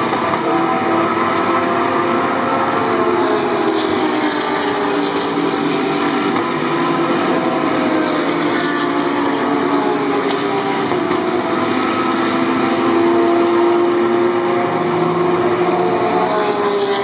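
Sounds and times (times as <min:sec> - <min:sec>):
race cars driving past: 0:00.0 - 0:17.0.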